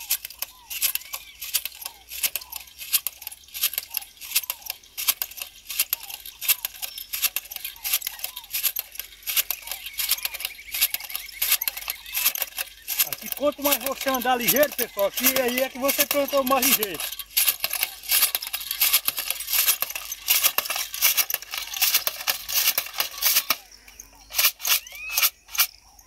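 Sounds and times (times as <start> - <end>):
hand planter rattling and clinking: 0.0 - 26.0.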